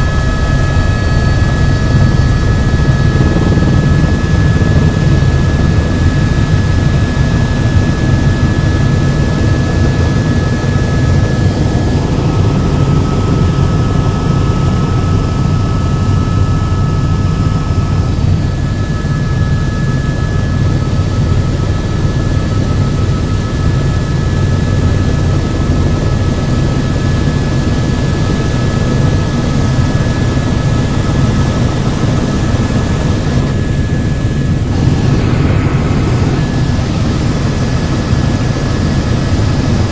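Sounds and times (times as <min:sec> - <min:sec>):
helicopter rotor and engine drone: 0:00.0 - 0:39.9
high-pitched turbine whine: 0:00.0 - 0:39.9.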